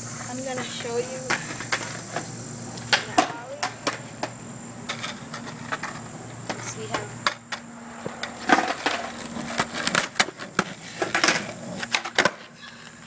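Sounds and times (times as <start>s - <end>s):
skateboard wheels knocking on concrete: 0.2s - 13.0s
skateboard tail popping: 0.5s - 13.0s.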